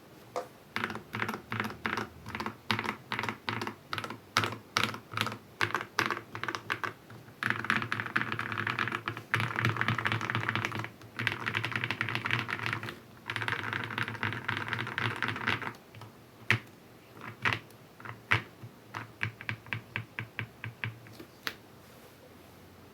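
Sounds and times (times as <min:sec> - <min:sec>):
typing on mechanical keyboard: 0:00.8 - 0:21.2.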